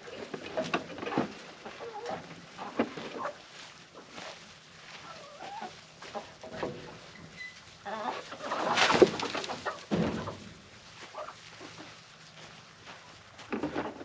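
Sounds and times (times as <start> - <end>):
rustling clatter: 0.0 - 12.2
chickens clucking: 0.0 - 12.8.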